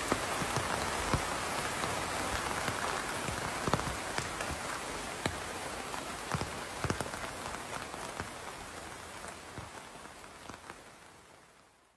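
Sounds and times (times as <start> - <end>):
raindrops ticking close by: 0.0 - 11.9
steady rain falling: 0.0 - 11.9.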